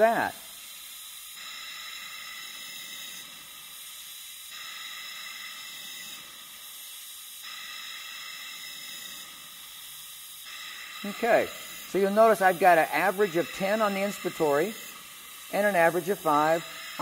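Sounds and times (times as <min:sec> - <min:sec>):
oxygen hissing through mask: 0:00.0 - 0:17.0.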